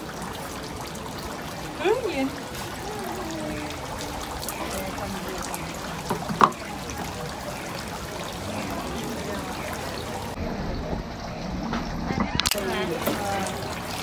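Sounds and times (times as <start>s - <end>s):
faint distant voices: 0.0s - 14.0s
outdoor crowd noise: 0.0s - 14.0s.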